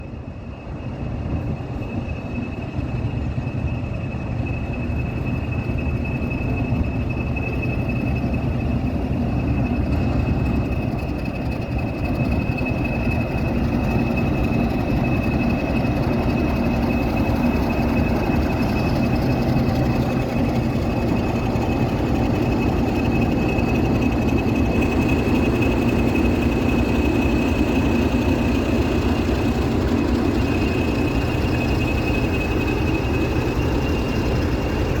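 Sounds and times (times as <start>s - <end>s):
diesel locomotive engine rumble: 0.0s - 35.0s.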